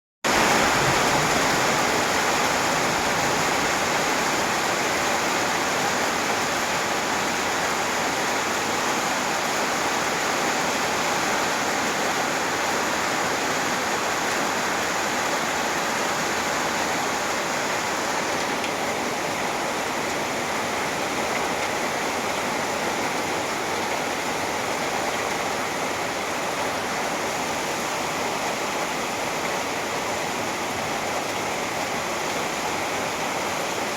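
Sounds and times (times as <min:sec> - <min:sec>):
steady rain falling: 0:00.3 - 0:33.9.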